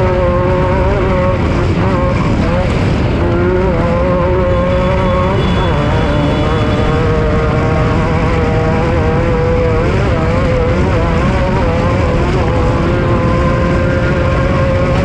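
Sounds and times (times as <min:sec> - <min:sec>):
heavy low rumble: 0:00.0 - 0:15.0
race vehicle engine running hard: 0:00.0 - 0:15.0.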